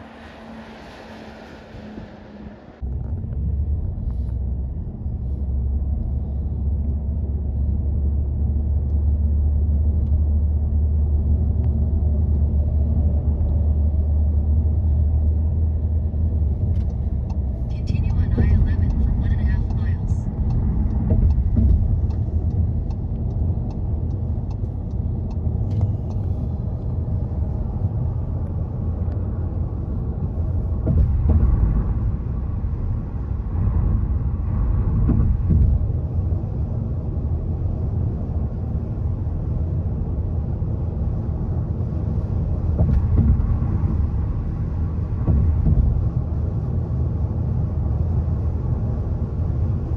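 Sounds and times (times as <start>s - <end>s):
road and tyre rumble: 0.0s - 49.9s.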